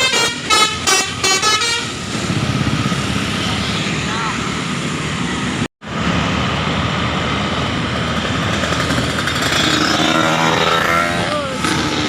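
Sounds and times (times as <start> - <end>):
bus engine running loudly: 0.0 - 12.0
traffic noise: 0.0 - 12.0.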